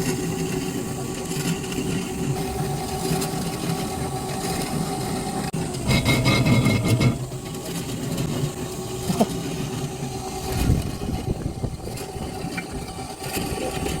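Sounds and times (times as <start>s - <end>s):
motor running: 0.0s - 14.0s.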